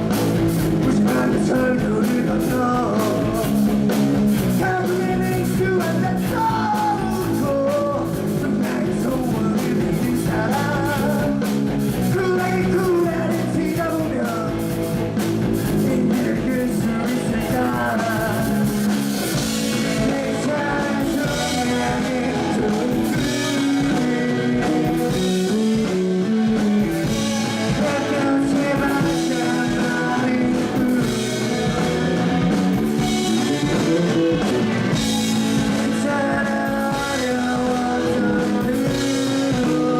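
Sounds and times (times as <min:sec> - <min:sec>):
person singing: 0:00.0 - 0:39.9
rock band playing live: 0:00.0 - 0:39.9.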